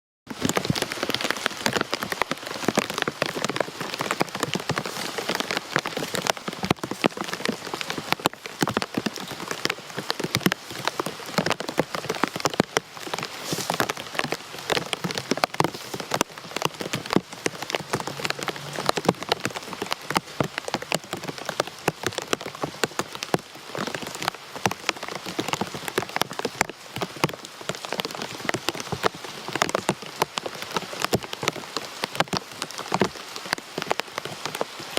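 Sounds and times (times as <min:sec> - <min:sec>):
rain on a hard surface: 0:00.3 - 0:34.9
raindrops ticking sharply: 0:00.3 - 0:34.9.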